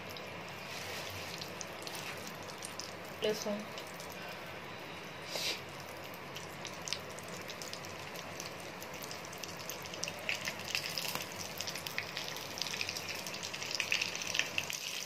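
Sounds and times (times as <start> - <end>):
seeds crackling in oil: 0.0 - 4.4, 5.2 - 15.0
ghee sizzling in a pan: 0.0 - 15.0.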